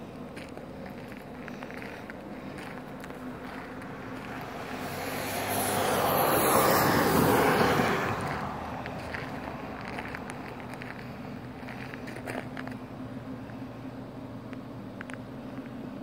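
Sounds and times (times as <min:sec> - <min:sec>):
vehicle driving past: 0:01.3 - 0:14.3.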